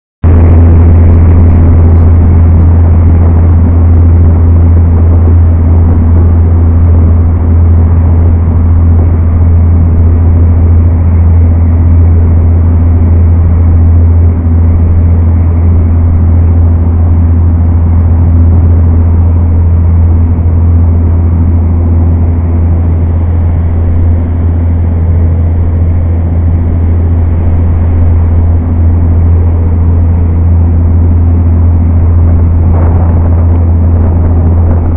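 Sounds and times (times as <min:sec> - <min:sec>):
ferry engine droning: 0:00.2 - 0:34.9.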